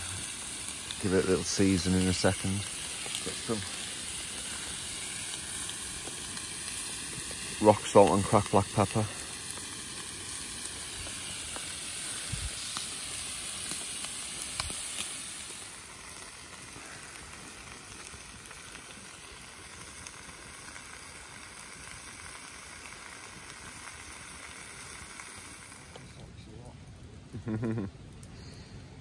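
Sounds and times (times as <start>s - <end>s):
food sizzling in a wok: 0.0s - 26.2s, 27.4s - 27.9s.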